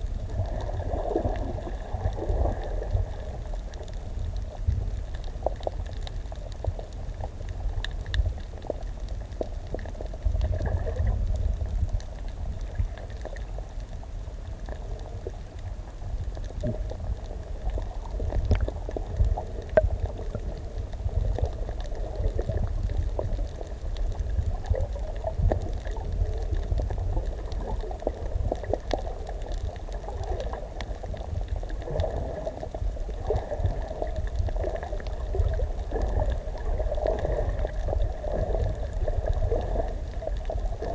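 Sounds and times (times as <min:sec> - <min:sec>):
steady low rumble: 0:00.0 - 0:40.9
water bubbling underwater: 0:00.0 - 0:40.9.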